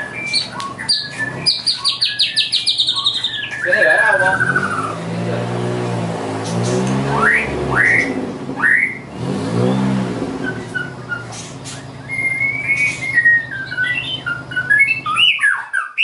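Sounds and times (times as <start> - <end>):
bird singing whistled notes: 0.0 - 5.0, 7.0 - 9.1, 9.7 - 16.0.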